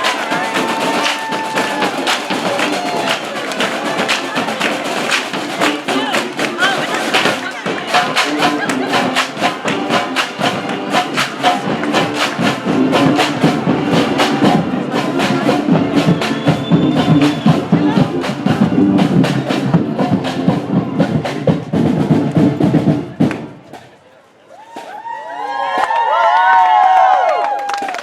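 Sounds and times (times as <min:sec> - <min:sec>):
drumline drumming: 0:00.0 - 0:24.0
marching band wind instruments: 0:00.0 - 0:24.0.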